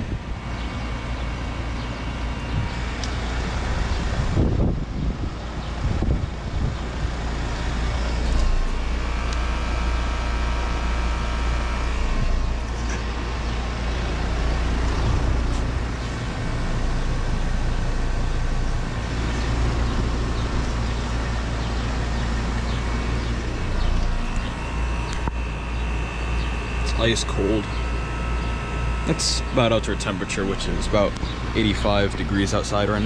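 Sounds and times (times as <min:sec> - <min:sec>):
faint high whine: 0:00.0 - 0:33.0
heat pump humming with fan noise: 0:00.0 - 0:33.0.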